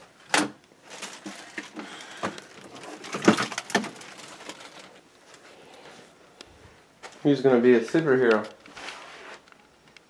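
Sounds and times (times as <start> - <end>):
rustling of toys and clothes: 0.0 - 9.7.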